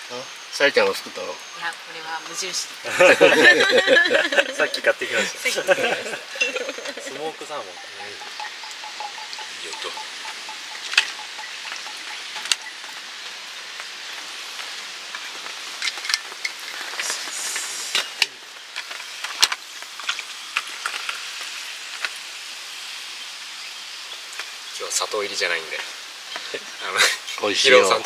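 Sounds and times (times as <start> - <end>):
heavy rain: 0.0 - 28.0
sharp drips: 0.0 - 28.0.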